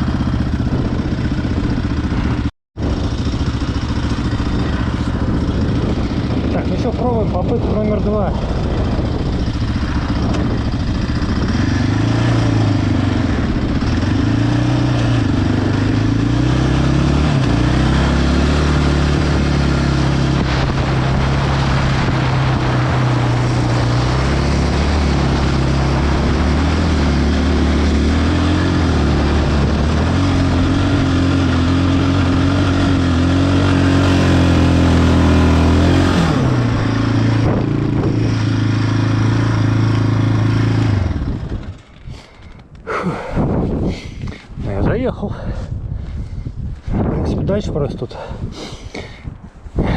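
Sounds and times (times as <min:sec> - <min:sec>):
atv engine revving: 0:00.0 - 0:43.4.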